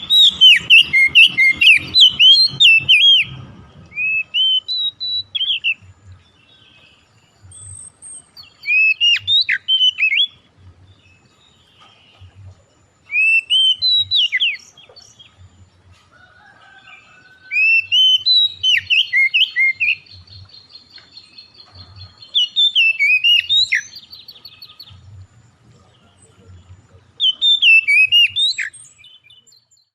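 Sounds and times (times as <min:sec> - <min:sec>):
songbird whistling: 0:00.0 - 0:10.5, 0:11.1 - 0:15.5, 0:16.6 - 0:25.1, 0:27.2 - 0:29.9.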